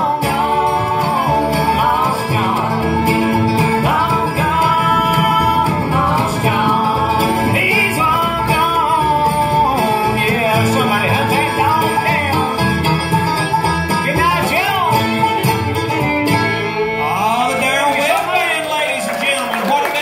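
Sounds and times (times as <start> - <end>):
bowed fiddle melody: 0.0 - 18.6
bluegrass band playing: 0.0 - 20.0.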